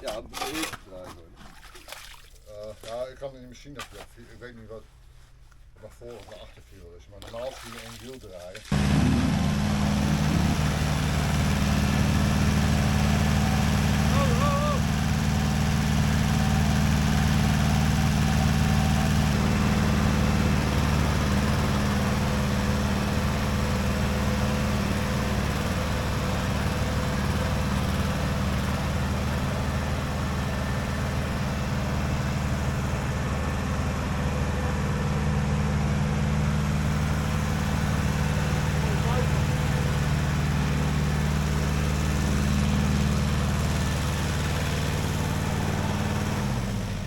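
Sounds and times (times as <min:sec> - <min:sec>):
tractor engine idling: 0:08.7 - 0:47.0.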